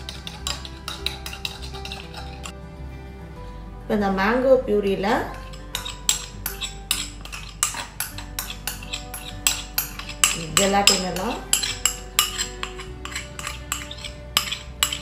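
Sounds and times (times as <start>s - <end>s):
metal spoon clinking on bowl: 0.0s - 2.5s, 5.3s - 15.0s
background music with steady beat: 0.0s - 15.0s.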